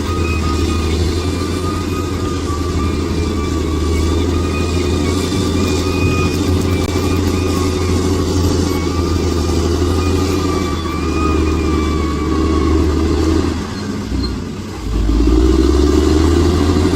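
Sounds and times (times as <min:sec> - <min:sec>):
thin wavering whine: 0:00.0 - 0:13.9
bulldozer diesel engine running: 0:00.0 - 0:16.9.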